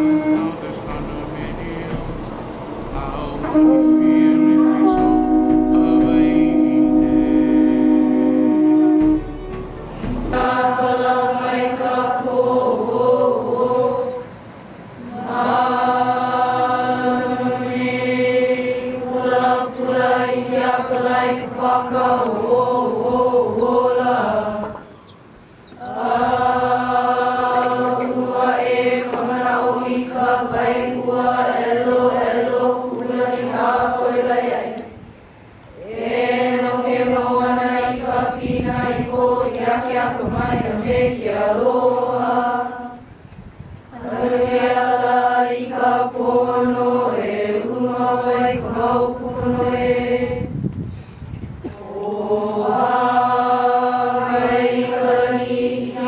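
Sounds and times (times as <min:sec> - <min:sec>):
children and adults chanting: 0:00.0 - 0:09.6, 0:10.2 - 0:24.8, 0:25.8 - 0:43.1, 0:43.9 - 0:50.5, 0:51.7 - 0:56.0.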